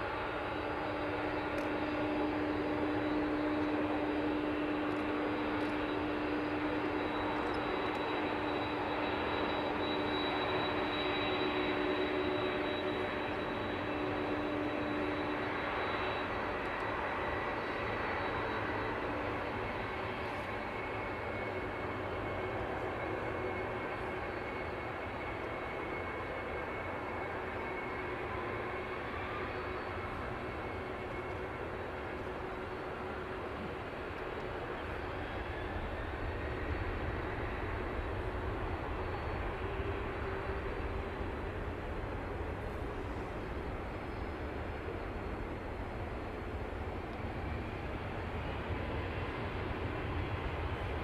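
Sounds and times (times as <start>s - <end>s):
high engine whine: 0.0s - 51.0s
jet engines running: 0.0s - 51.0s.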